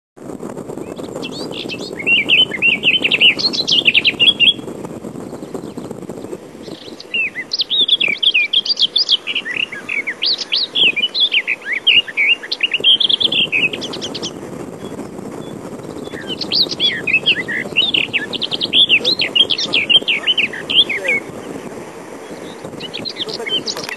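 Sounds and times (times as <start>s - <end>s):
small birds chirping: 0.8s - 23.9s.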